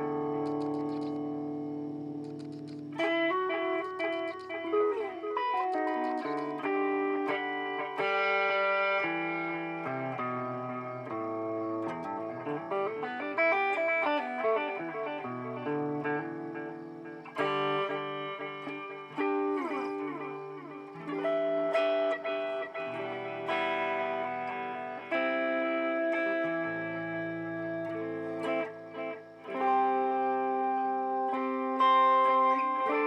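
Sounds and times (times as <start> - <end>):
electric guitar with delay echoes: 0.0 - 33.0.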